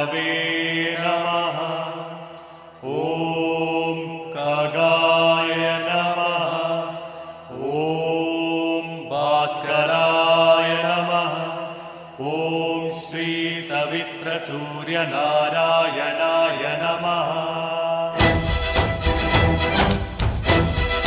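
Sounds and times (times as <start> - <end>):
person chanting: 0.0 - 18.3.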